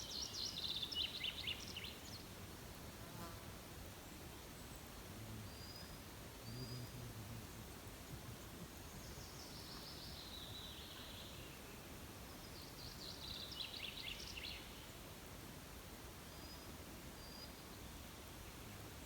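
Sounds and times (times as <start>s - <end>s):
songbird singing faintly: 0.0s - 15.1s, 16.2s - 19.0s.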